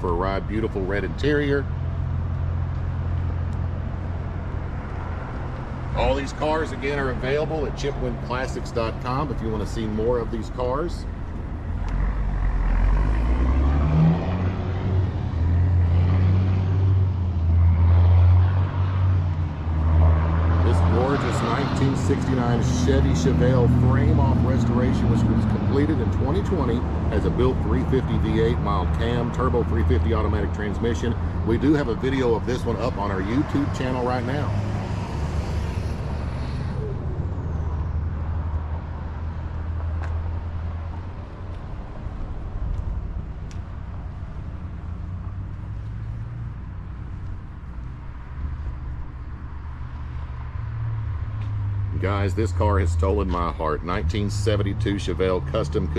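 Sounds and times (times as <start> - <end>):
car engine rumbling: 0.0 - 55.9.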